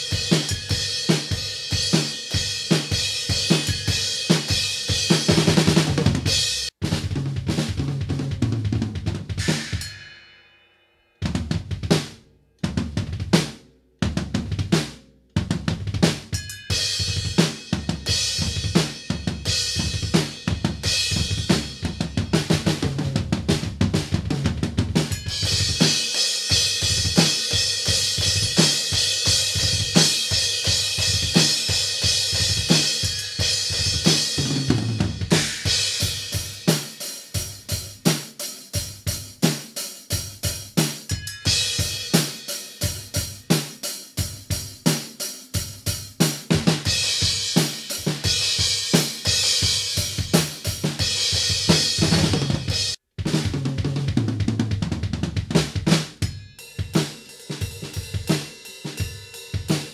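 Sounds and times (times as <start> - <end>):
drum kit played fast: 0.0 - 10.4, 11.2 - 59.9.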